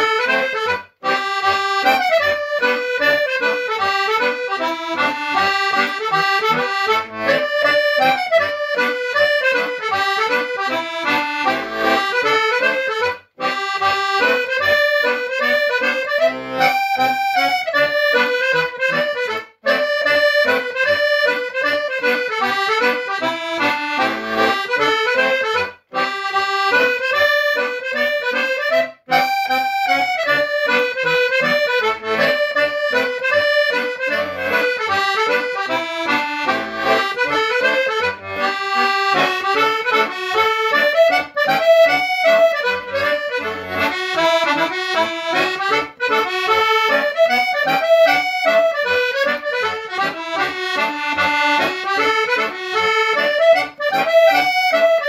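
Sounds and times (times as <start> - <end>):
piano accordion playing dance tune: 0.0 - 55.0.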